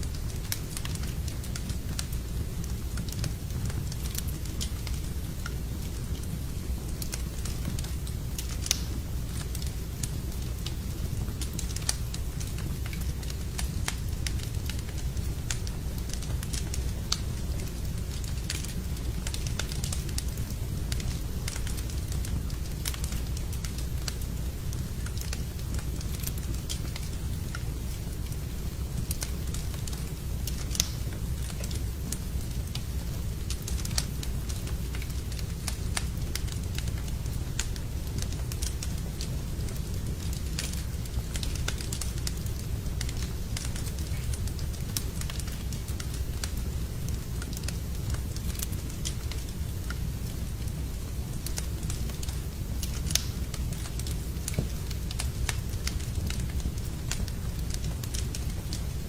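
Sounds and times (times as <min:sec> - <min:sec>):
crackles and pops of burning logs: 0:00.0 - 0:59.0
fire flames rumbling: 0:00.0 - 0:59.0.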